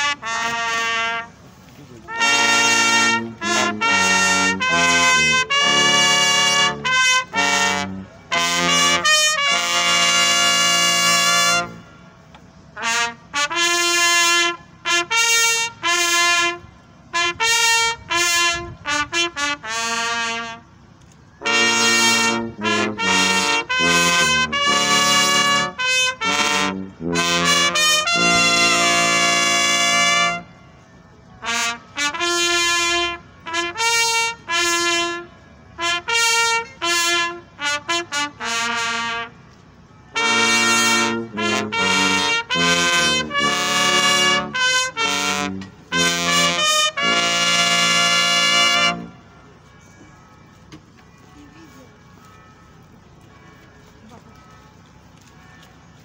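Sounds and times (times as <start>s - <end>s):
trumpet playing melody: 0.0s - 20.8s, 21.4s - 30.8s, 31.4s - 50.7s.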